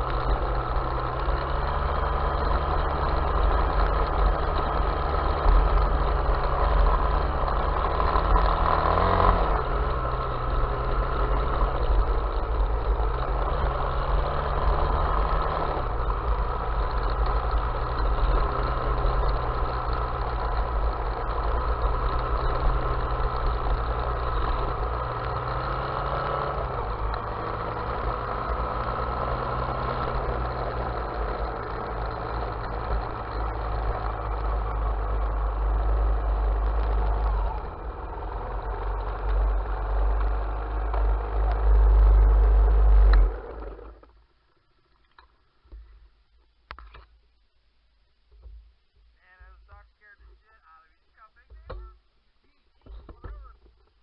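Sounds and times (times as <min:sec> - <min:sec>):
off-road vehicle engine running: 0:00.0 - 0:47.1, 0:48.4 - 0:54.0.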